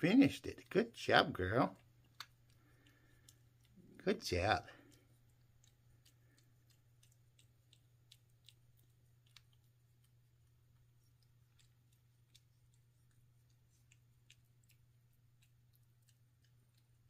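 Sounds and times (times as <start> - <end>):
low steady hum: 0.0 - 17.0
kitten eating clicks: 0.2 - 17.0.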